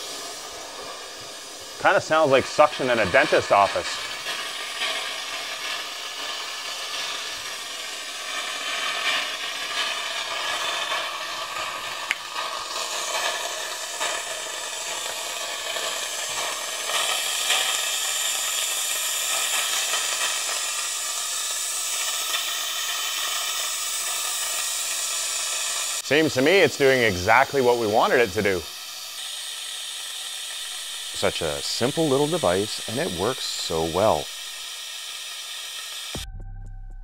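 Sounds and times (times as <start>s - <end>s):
air suction siphon hissing: 0.0s - 36.2s.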